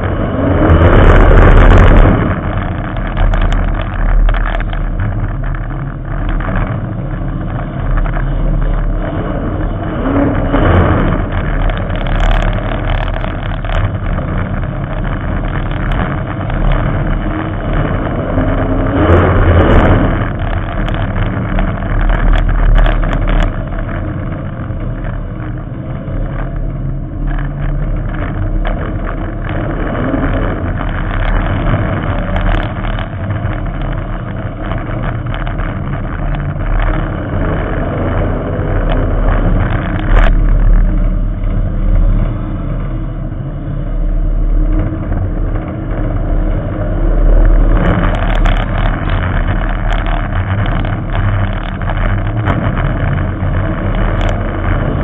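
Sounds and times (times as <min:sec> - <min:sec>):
race car engine running hard: 0:00.0 - 0:55.0
rattles: 0:00.0 - 0:55.0
road noise: 0:00.0 - 0:55.0.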